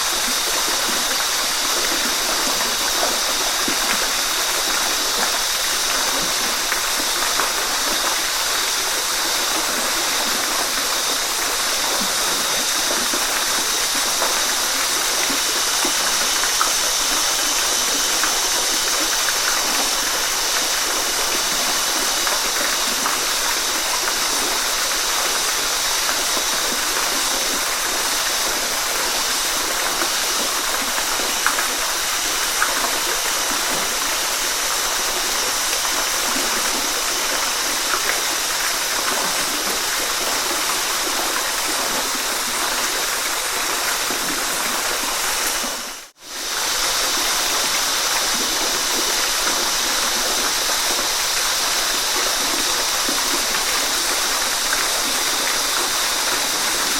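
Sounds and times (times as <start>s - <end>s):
waterfall rushing and splashing: 0.0s - 56.9s.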